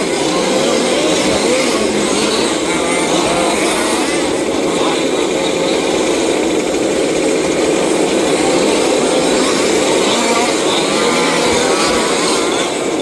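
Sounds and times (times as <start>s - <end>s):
rc car engines droning: 0.0s - 13.0s.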